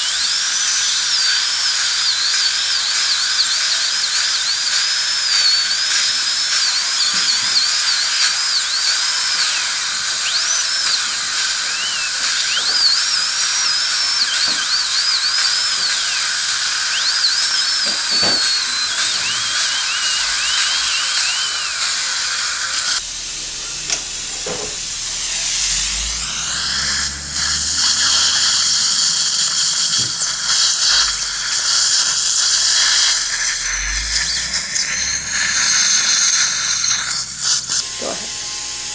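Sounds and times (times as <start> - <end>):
surgical suction hissing: 0.0 - 38.3
dental drill whining: 0.0 - 38.9.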